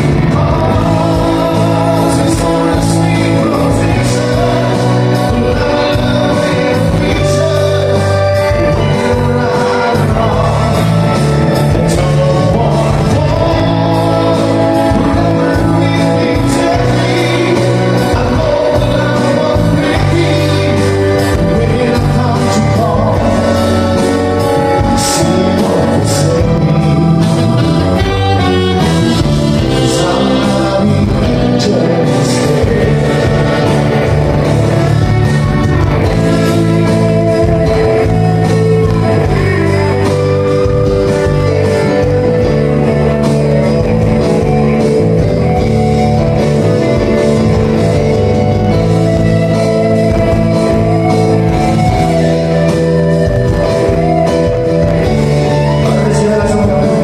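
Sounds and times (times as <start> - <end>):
lead vocal singing: 0.0 - 57.0
live band playing: 0.0 - 57.0.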